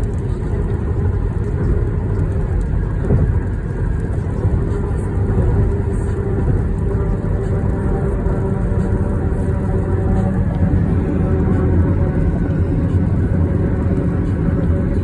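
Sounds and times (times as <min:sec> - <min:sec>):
tyres rumbling on road: 0:00.0 - 0:15.0.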